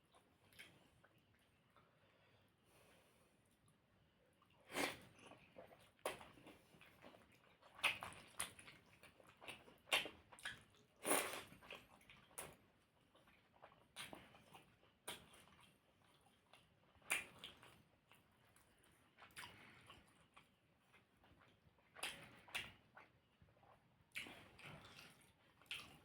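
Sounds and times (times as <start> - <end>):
person chewing food: 0.0 - 2.4, 3.4 - 26.0.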